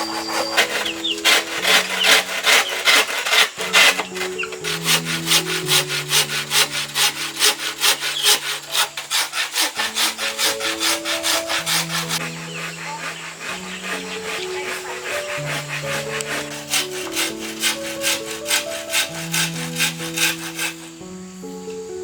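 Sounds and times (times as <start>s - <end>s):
hand saw cutting bamboo: 0.0s - 21.0s.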